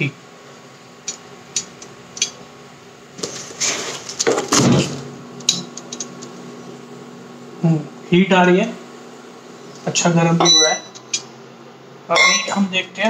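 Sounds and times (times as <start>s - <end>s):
induction cooktop humming: 0.0s - 13.0s.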